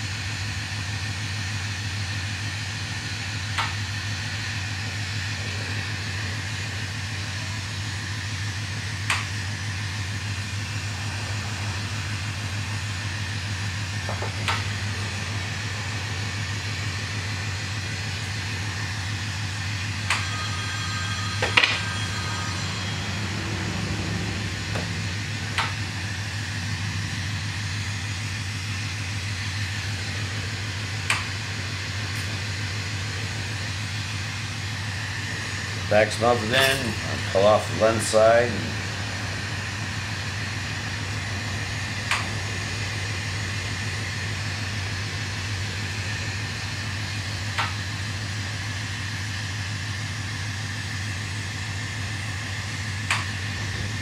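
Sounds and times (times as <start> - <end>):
low hum: 3.2 - 54.0.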